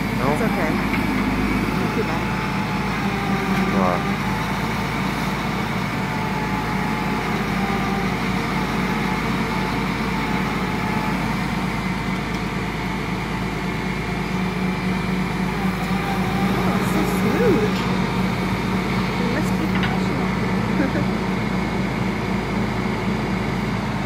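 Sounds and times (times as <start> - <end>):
diesel engines humming: 0.0 - 24.0.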